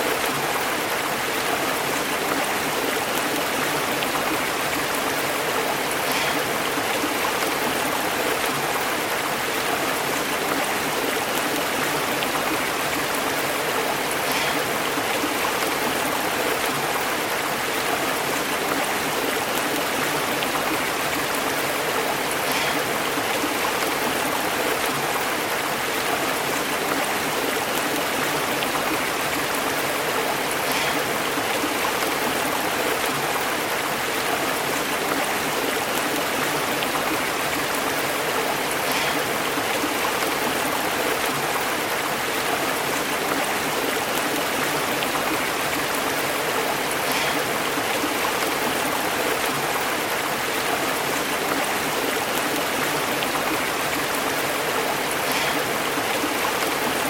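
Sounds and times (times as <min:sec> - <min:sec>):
stream water burbling over rocks: 0:00.0 - 0:57.0.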